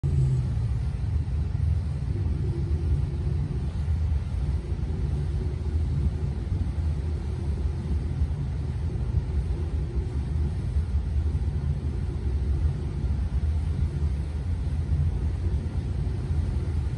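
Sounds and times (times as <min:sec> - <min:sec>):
boat engines rumbling behind glass: 0:00.0 - 0:16.9.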